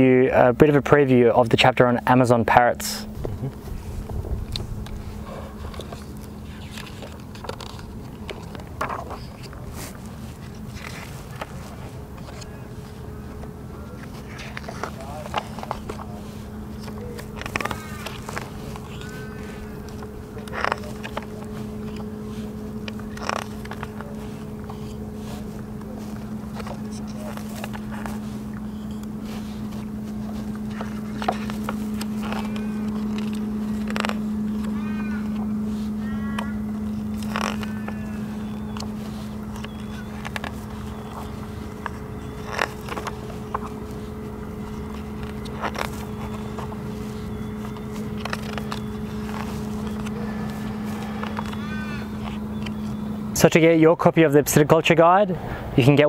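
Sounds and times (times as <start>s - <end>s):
low hum: 0.0s - 56.0s
book pages turning: 3.0s - 53.0s
paper rustling: 3.0s - 53.0s.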